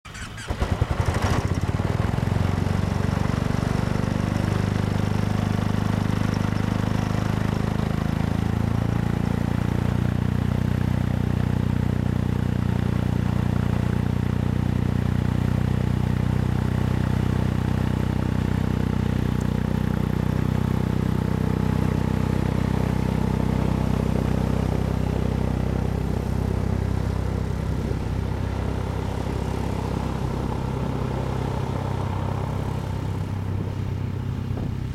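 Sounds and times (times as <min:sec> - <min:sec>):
gyroplane engine running: 0:00.1 - 0:10.8, 0:15.4 - 0:34.9.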